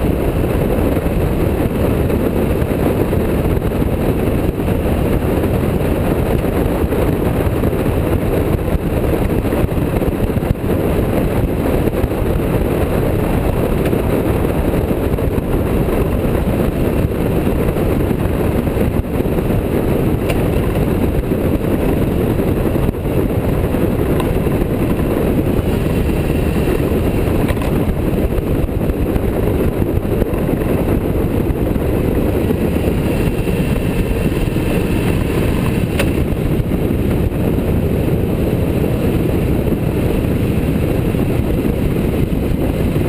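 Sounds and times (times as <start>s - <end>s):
motorcycle engine and wind roar: 0.0s - 43.0s.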